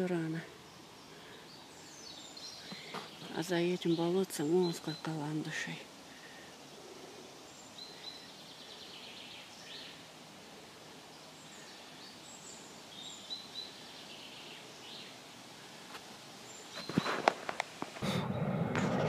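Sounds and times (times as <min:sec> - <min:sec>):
background hiss: 0:00.0 - 0:19.0
faint birdsong: 0:00.0 - 0:19.0.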